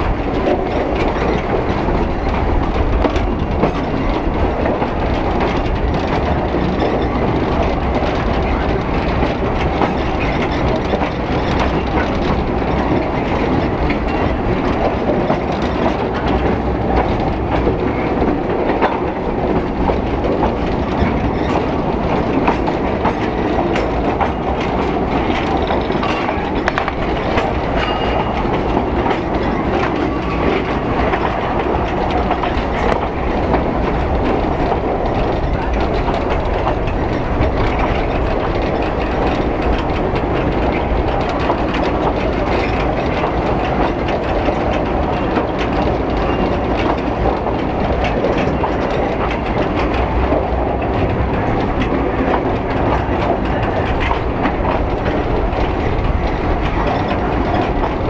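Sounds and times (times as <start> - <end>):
rail clicks: 0.0 - 58.0
train wheels rumbling on rails: 0.0 - 58.0.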